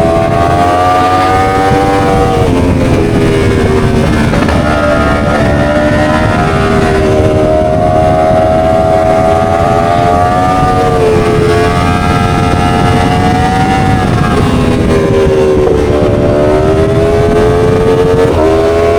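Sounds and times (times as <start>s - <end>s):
motorcycle engine running: 0.0s - 18.9s
steady rush of noise: 0.0s - 18.9s.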